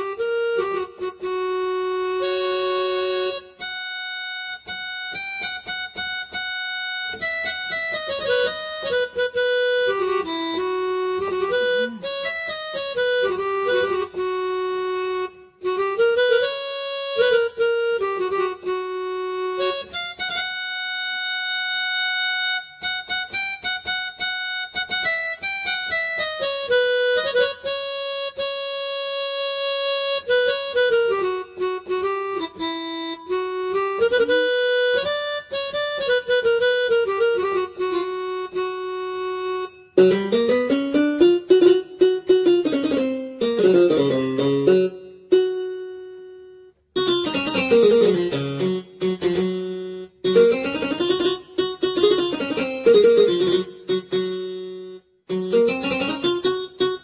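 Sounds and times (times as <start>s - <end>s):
electronic keyboard melody: 0.0s - 57.0s.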